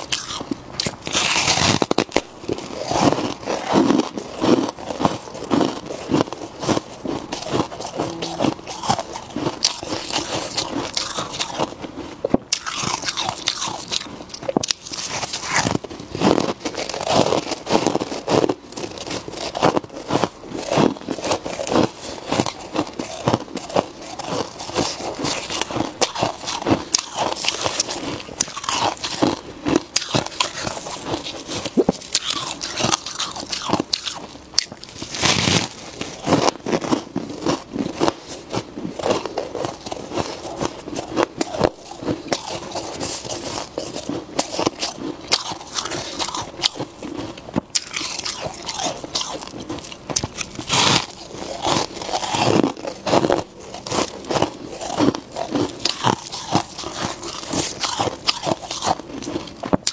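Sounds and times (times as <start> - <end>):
frost being chewed crunching: 0.0 - 59.9.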